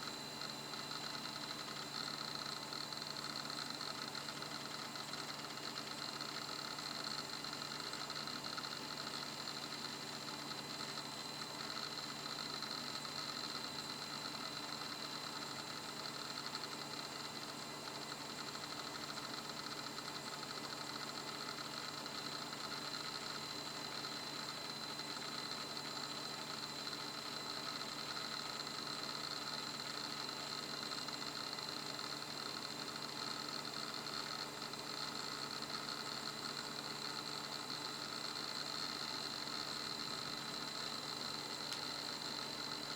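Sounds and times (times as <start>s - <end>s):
hard disk high-pitched whine: 0.0s - 42.9s.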